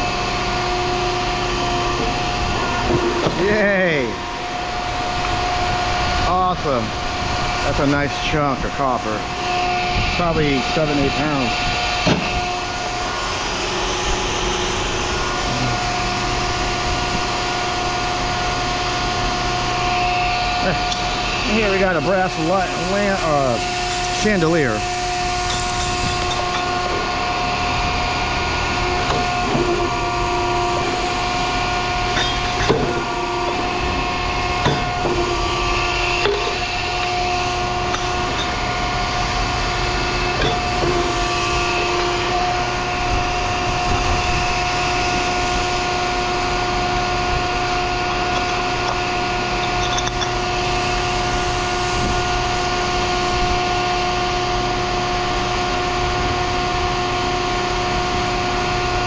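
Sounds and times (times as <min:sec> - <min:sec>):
machine hum with fixed tones: 0:00.0 - 0:59.0.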